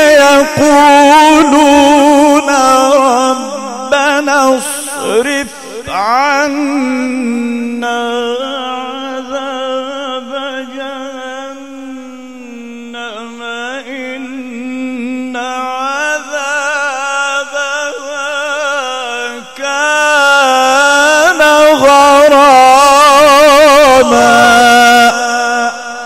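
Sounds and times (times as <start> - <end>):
man chanting through pa system: 0.0 - 26.0.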